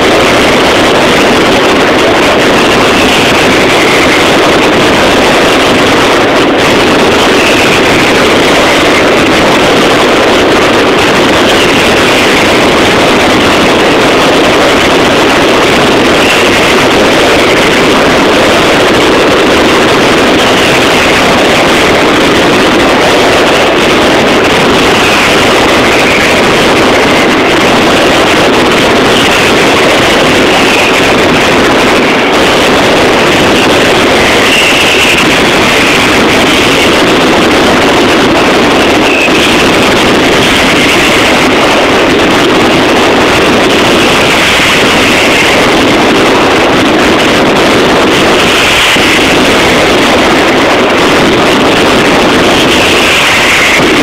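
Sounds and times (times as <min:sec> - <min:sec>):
firecracker barrage distorted roar: 0:00.0 - 0:54.0.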